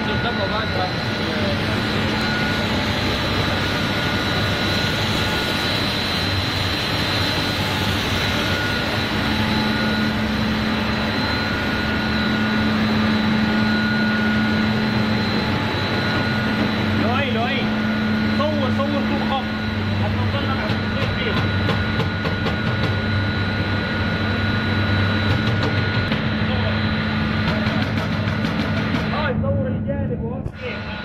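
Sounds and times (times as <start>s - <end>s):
machine low hum: 0.0s - 31.0s.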